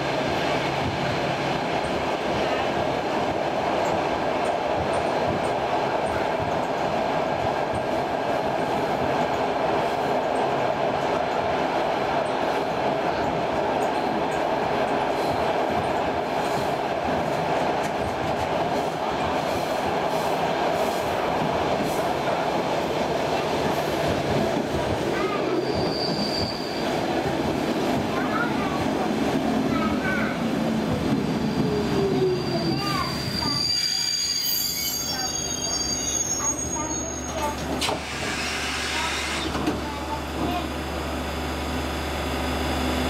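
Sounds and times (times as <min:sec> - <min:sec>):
train running on track: 0:00.0 - 0:43.0.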